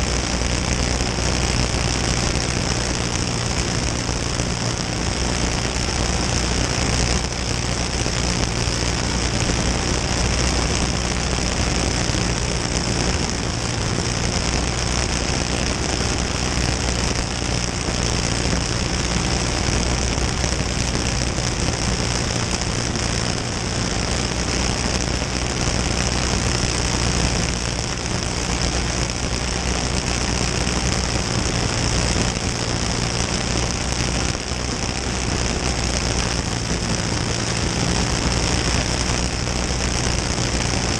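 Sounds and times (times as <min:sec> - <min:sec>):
kart engine running: 0:00.0 - 0:40.9
track noise: 0:00.0 - 0:40.9.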